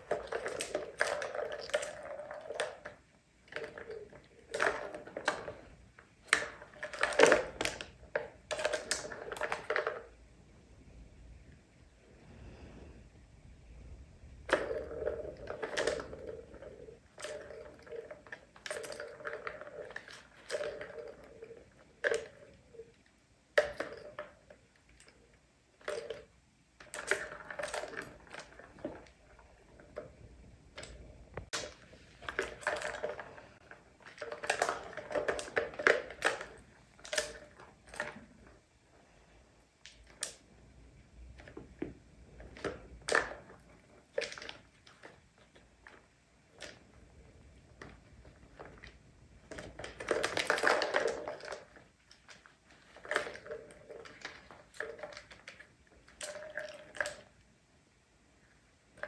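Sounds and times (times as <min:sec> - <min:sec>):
paws knocking plastic balls: 0:00.0 - 0:10.2, 0:14.4 - 0:22.9, 0:23.5 - 0:38.6, 0:41.2 - 0:57.4
plastic balls rolling and rattling: 0:00.0 - 0:10.6, 0:13.6 - 0:57.6.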